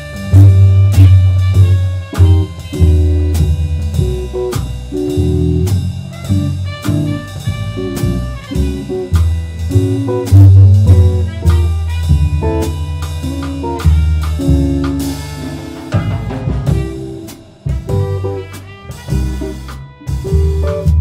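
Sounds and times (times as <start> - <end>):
drum kit: 0.0 - 21.0
trumpet: 0.0 - 21.0
upright bass walking: 0.0 - 21.0.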